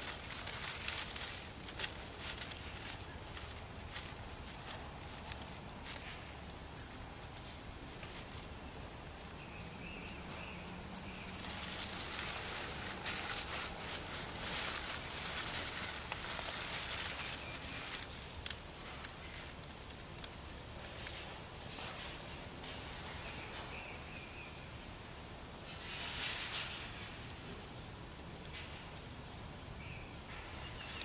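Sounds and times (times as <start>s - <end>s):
dry leaves crackling and rustling: 0.0s - 31.0s.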